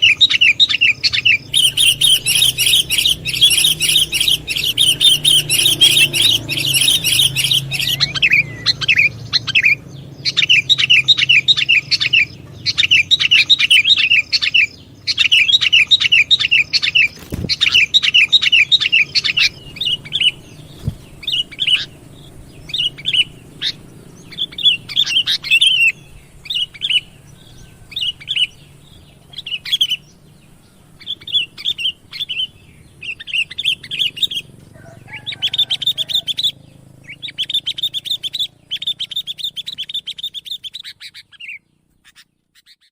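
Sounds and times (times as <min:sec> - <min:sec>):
bulbul chirping: 0:00.0 - 0:42.9.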